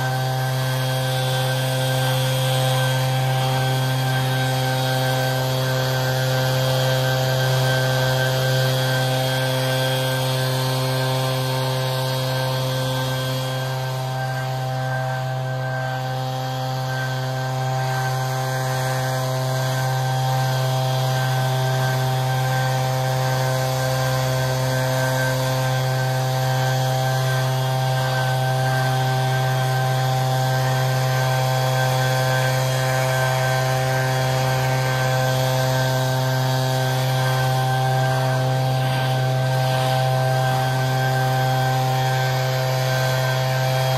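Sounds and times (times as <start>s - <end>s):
leaf blower engine running: 0.0s - 43.9s.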